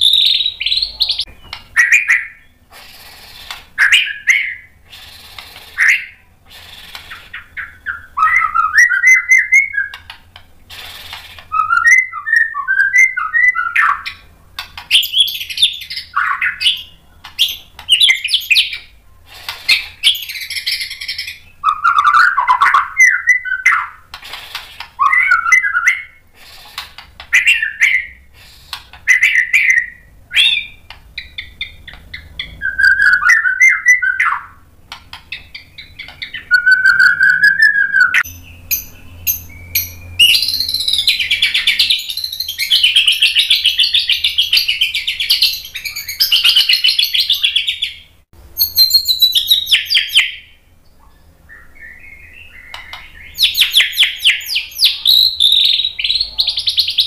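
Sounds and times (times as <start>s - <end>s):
bird singing whistled phrases and trills: 0.0s - 2.6s, 3.2s - 10.1s, 11.5s - 14.3s, 14.9s - 18.9s, 19.7s - 24.0s, 25.0s - 26.2s, 27.3s - 34.6s, 35.3s - 57.0s.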